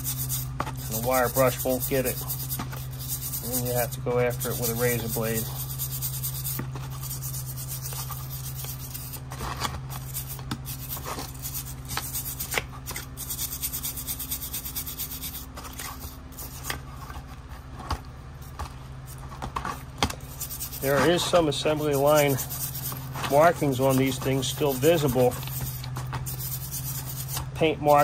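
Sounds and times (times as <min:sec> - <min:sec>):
scrubbing grease off metal: 0:00.0 - 0:17.7, 0:20.2 - 0:28.0
steady low hum: 0:00.0 - 0:28.0.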